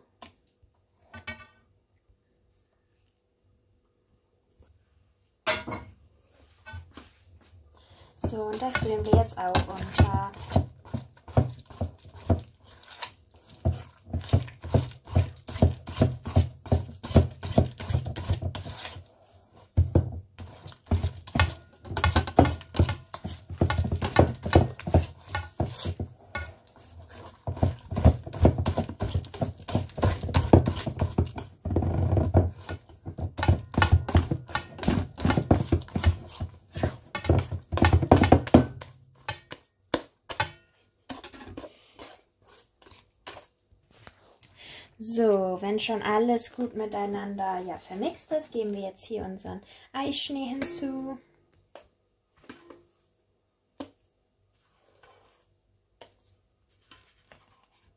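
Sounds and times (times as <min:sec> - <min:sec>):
batter stirred in steel bowl: 0:07.8 - 0:44.4, 0:45.1 - 0:49.4, 0:50.0 - 0:53.1, 0:53.7 - 0:57.9.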